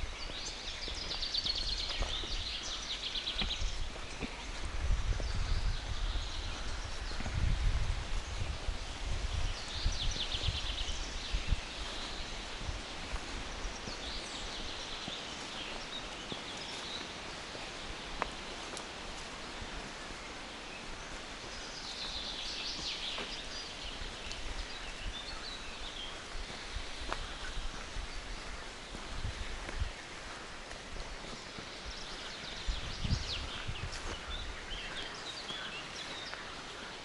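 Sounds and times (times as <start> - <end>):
forest rustling hiss: 0.0 - 37.0
songbirds trilling: 0.0 - 37.0.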